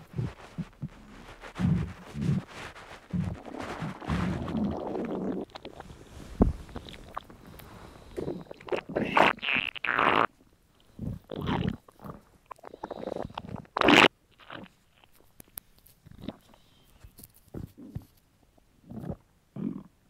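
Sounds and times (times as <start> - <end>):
stomach gurgling: 0.0 - 15.2, 16.0 - 16.8, 17.5 - 20.0.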